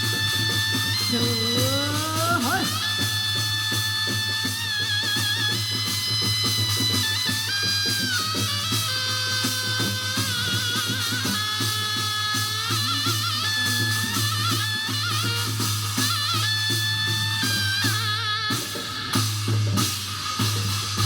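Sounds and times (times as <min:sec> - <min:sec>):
steady drum beat: 0:00.0 - 0:21.0.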